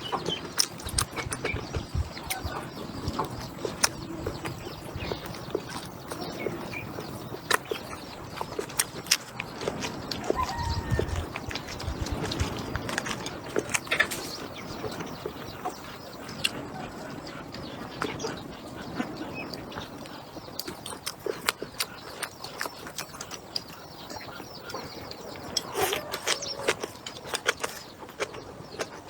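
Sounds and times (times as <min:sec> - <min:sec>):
chewing and mouth smacks: 0:00.1 - 0:16.9, 0:19.0 - 0:29.0.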